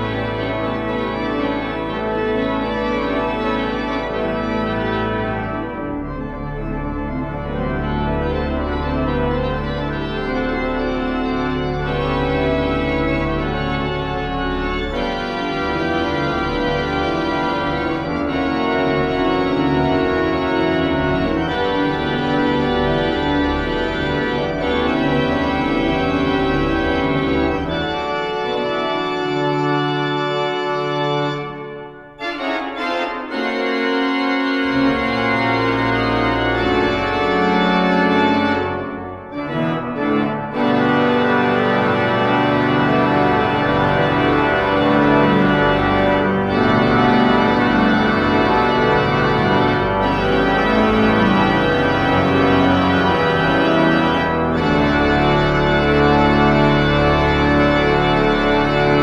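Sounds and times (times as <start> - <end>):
organ pedal bass line: 0.0 - 59.0
pipe organ chords: 0.0 - 59.0.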